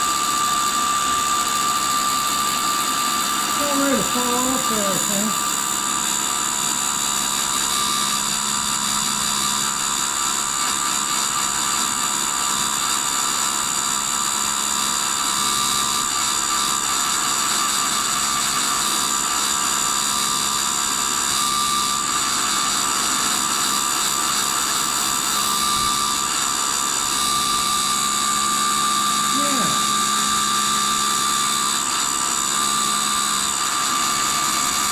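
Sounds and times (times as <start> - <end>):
grinding wheel cutting steel: 0.0 - 34.9
motors humming and whining: 0.0 - 34.9.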